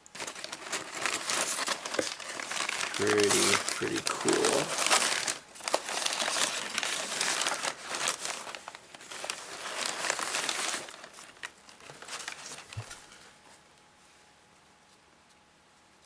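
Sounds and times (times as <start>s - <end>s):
packing material crinkling: 0.0s - 13.2s.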